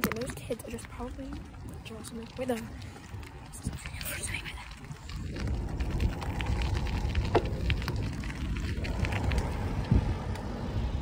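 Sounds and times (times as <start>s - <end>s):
crackling clicks: 0.0s - 10.6s
wind rumbling on microphone: 0.0s - 11.0s.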